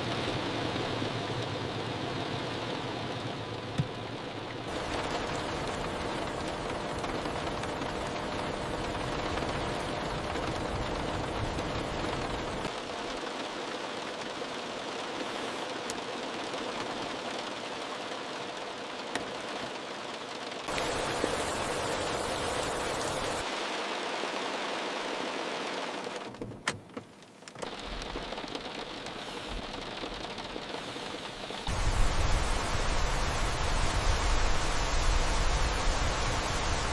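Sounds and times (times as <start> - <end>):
heavy rain pattering on a car: 0.0 - 36.9.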